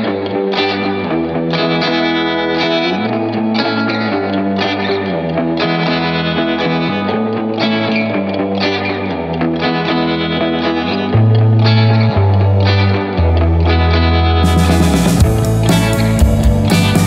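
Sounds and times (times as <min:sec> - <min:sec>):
distorted electric guitar music: 0:00.0 - 0:17.0.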